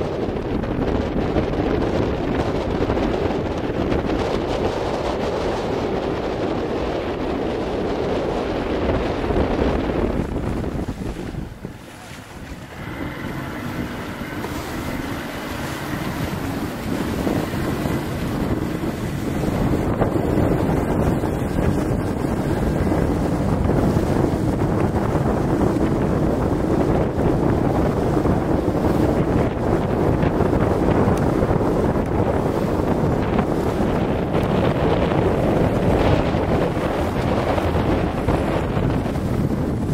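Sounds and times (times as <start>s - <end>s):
choppy water rushing: 0.0s - 39.9s
wind buffeting microphone: 0.0s - 39.9s.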